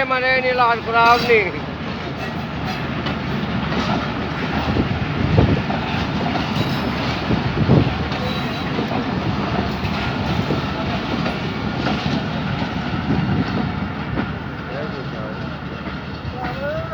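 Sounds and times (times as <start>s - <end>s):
train wheels rumbling on rail: 0.0s - 16.9s.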